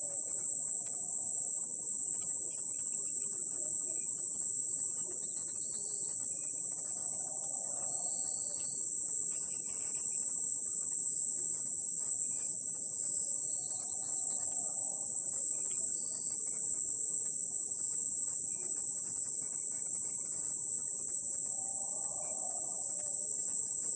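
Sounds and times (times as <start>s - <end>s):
faint low animal call: 0.0s - 16.9s, 17.8s - 23.9s
crickets droning: 0.0s - 23.9s.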